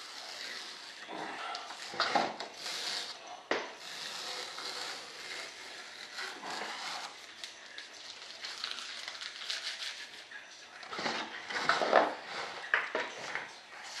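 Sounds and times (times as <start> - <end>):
dry scraping: 0.0 - 14.0.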